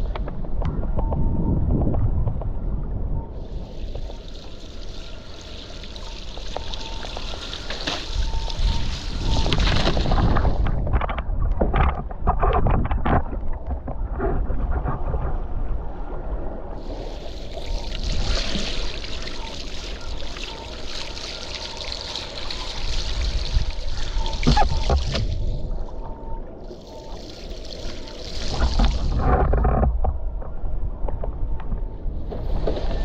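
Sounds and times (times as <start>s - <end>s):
wind rumble on microphone: 0.0s - 20.6s, 22.4s - 33.0s.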